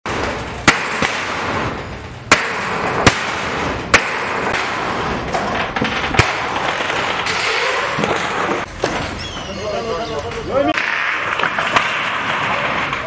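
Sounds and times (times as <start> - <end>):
sledgehammer banging iron sheet: 0.0 - 9.0, 10.7 - 13.0
steady background noise: 0.0 - 13.0.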